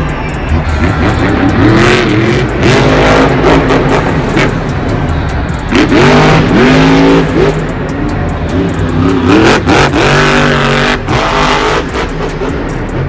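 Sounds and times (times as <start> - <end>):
truck engines revving: 0.0 - 13.0.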